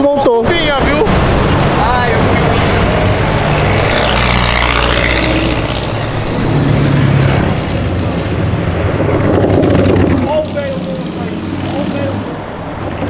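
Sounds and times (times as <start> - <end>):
cars driving past: 0.0 - 13.0
low engine drone: 0.4 - 13.0.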